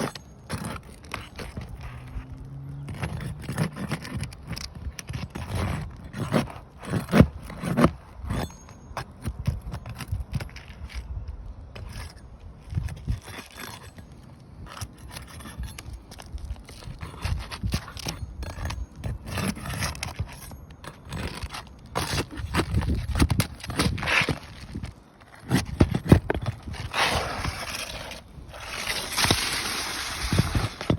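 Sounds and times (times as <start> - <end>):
scraping and scuffing: 0.0 - 30.9.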